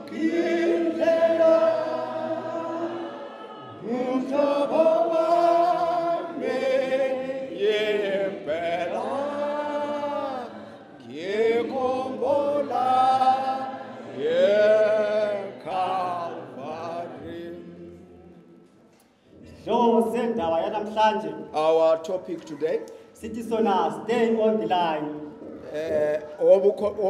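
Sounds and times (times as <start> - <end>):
congregation singing a hymn: 0.0 - 18.6, 19.3 - 27.0.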